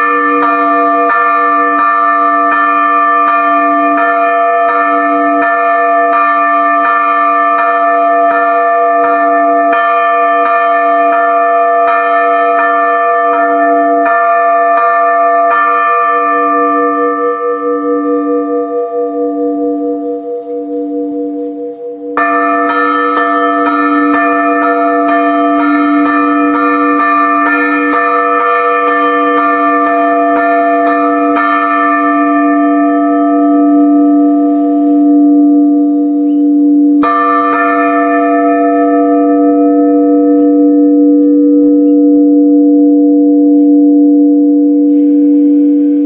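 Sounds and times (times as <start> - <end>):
church bell strikes: 0.0 - 46.0.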